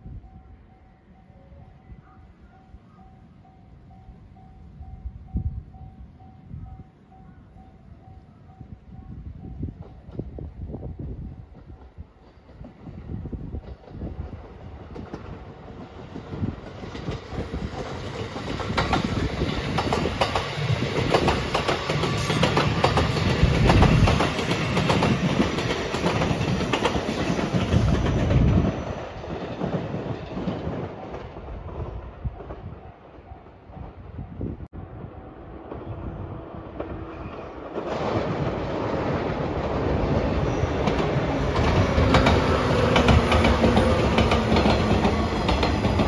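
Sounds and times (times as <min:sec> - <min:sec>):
train passing close by: 0:00.0 - 0:46.0.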